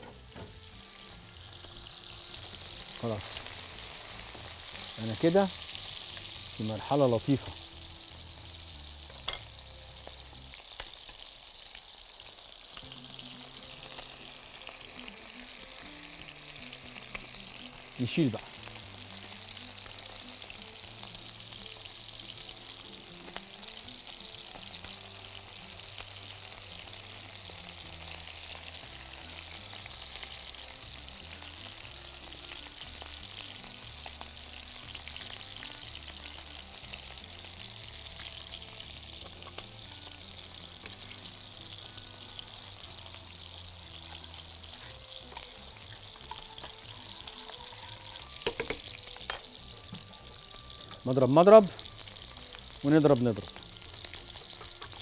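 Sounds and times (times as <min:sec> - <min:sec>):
chicken sizzling in a pan: 0:00.0 - 0:55.0
quiet background music: 0:00.0 - 0:55.0.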